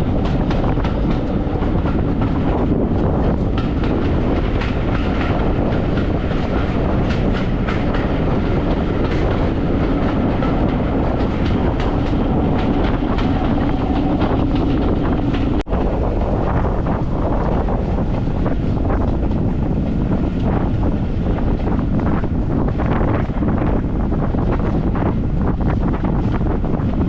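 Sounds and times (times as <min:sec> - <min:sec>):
train rumbling on rails: 0:00.0 - 0:27.0
wheels clicking over rail joints: 0:00.0 - 0:27.0.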